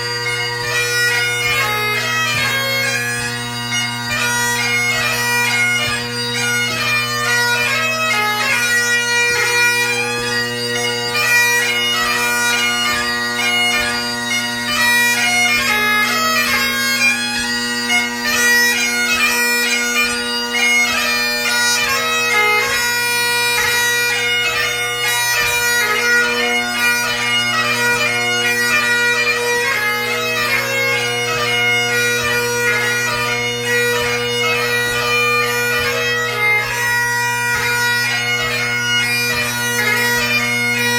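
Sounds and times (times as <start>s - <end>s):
bagpipe chanter melody: 0.0s - 40.9s
bagpipe drones: 0.0s - 40.9s.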